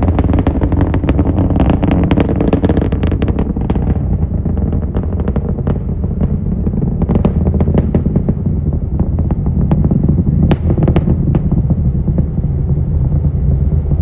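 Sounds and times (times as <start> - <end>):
distant rocket engine rumble: 0.0 - 14.0.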